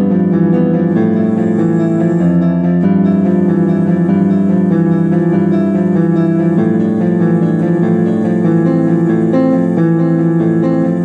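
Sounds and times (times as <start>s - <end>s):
keyboard playing held chords: 0.0s - 11.0s.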